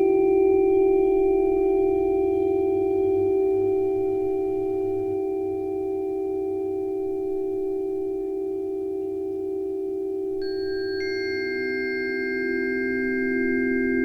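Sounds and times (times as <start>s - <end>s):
sustained ringing tone: 1.4s - 14.0s.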